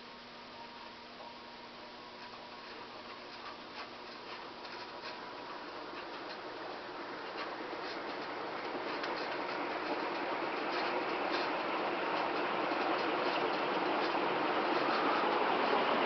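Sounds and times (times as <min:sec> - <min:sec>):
ceiling fan air rush: 0:00.0 - 0:16.0.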